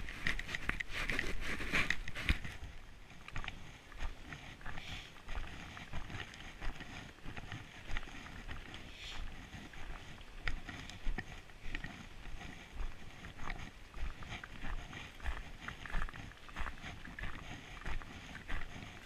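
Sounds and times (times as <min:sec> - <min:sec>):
footsteps crunching on snow: 0:00.0 - 0:19.0.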